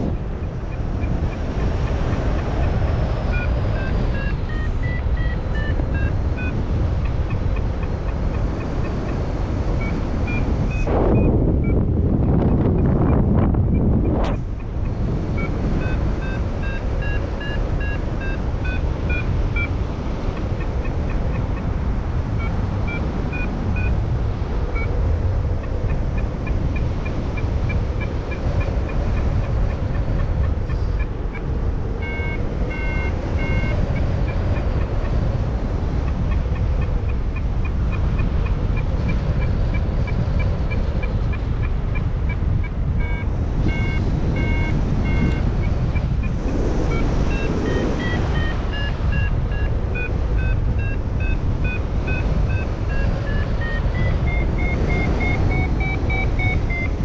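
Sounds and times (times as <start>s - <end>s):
variometer short beeps: 0.0s - 21.7s, 22.3s - 24.0s, 24.6s - 35.3s, 36.0s - 57.0s
wind rushing over microphone: 0.0s - 57.0s.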